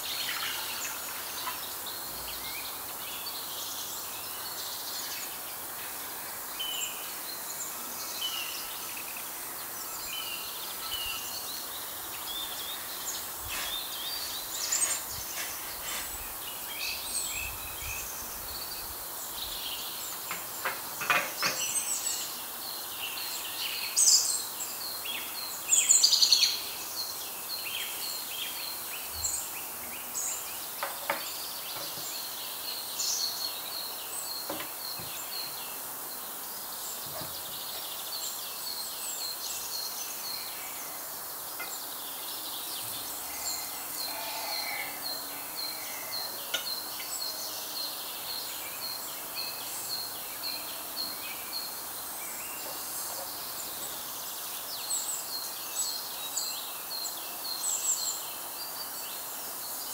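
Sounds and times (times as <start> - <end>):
birds chirping and singing: 0.0 - 58.2
steady background hiss: 0.0 - 59.9.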